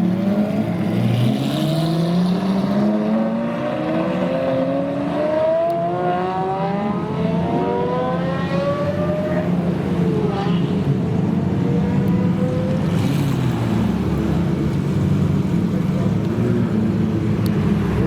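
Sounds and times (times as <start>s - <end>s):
car engines accelerating: 0.0s - 18.0s.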